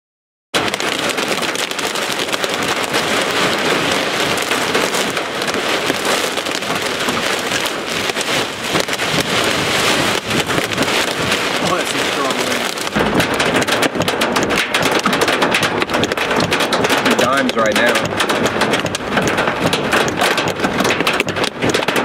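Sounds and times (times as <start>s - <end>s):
hail and rain pelting a car: 0.6s - 22.0s.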